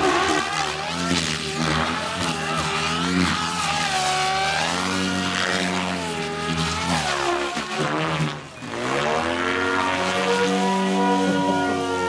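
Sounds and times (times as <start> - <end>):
rc helicopter rotor and motor whine: 0.0 - 12.0.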